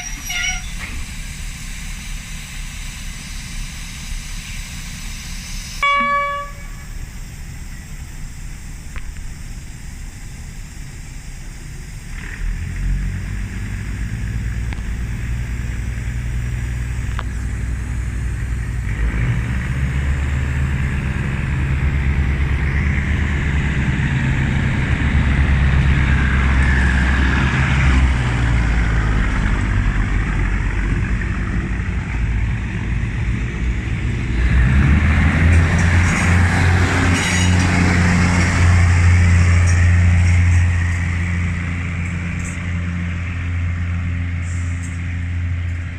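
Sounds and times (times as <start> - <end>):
diesel train engine drone: 0.0 - 45.9
train wheels on rails: 0.0 - 45.9.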